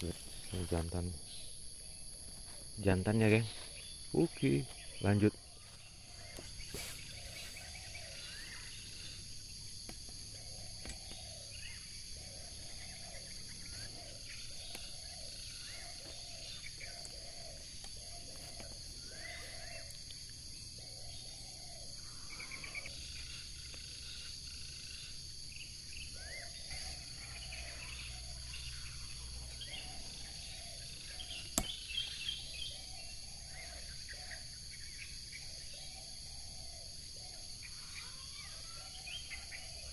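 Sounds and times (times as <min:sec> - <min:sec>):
birds calling: 0:00.0 - 0:39.9
high insect drone: 0:00.0 - 0:39.9.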